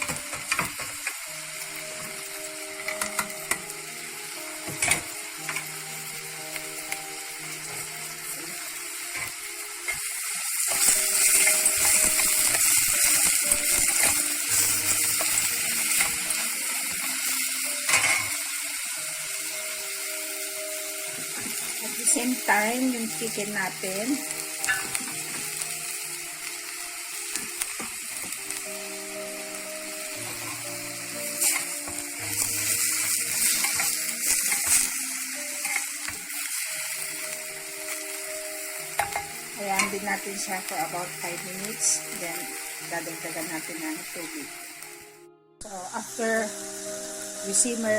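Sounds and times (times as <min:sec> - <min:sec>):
soft background music: 0:00.0 - 0:47.9
vegetables sizzling in a pan: 0:00.0 - 0:47.9.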